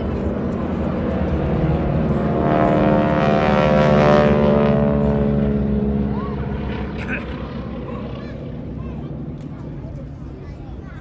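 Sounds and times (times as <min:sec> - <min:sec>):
biplane engine droning past: 0:00.0 - 0:11.0.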